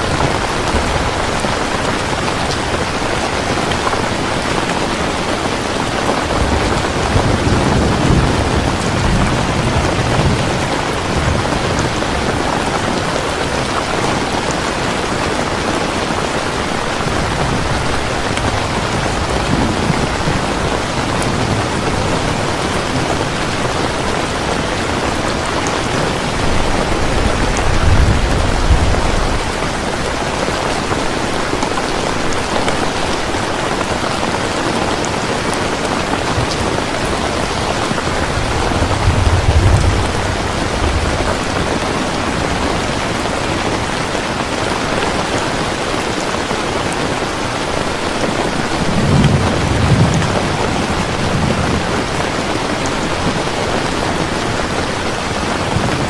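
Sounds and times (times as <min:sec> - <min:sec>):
thunder rumbling: 0:00.0 - 0:33.9, 0:35.0 - 0:45.4, 0:48.0 - 0:56.0
heavy rain falling: 0:00.0 - 0:56.0.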